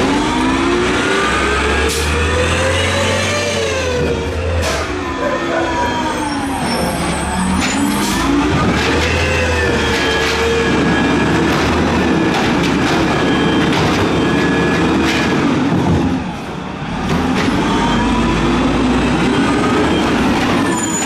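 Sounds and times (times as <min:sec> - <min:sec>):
truck diesel engine revving: 0:00.0 - 0:20.7.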